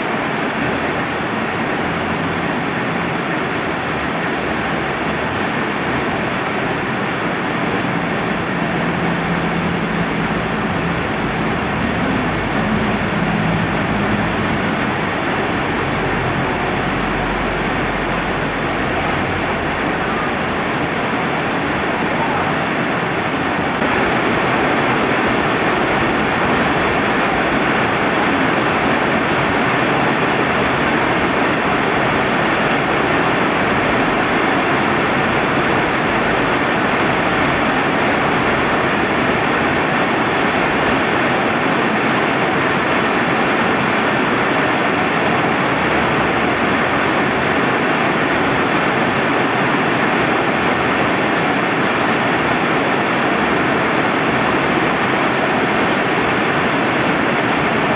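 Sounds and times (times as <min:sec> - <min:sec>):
rain falling: 0:00.0 - 0:57.9
rushing river: 0:00.0 - 0:57.9.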